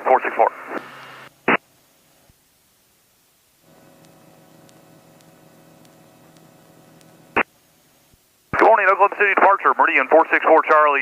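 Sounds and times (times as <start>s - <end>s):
radio squelch: 0.0s - 1.6s, 3.6s - 11.0s
faint electrical hum: 0.0s - 11.0s.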